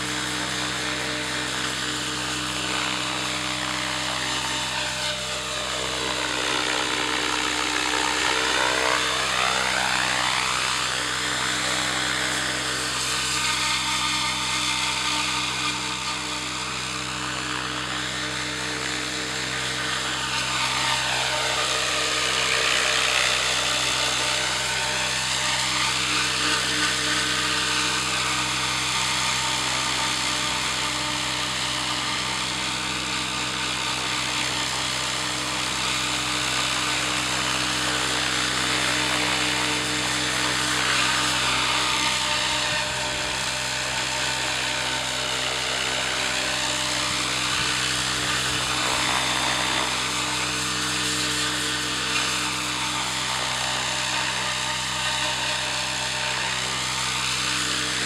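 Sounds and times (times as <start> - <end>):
model helicopter whirring: 0.0 - 58.0.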